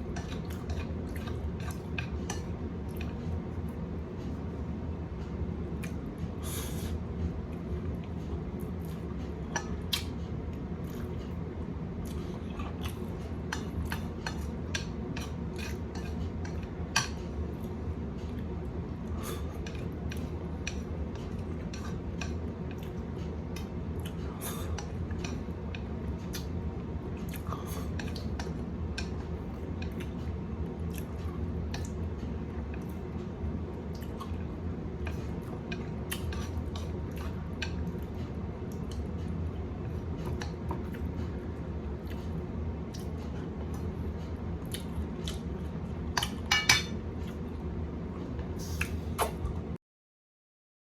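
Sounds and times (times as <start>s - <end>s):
steady low hum: 0.0s - 49.8s.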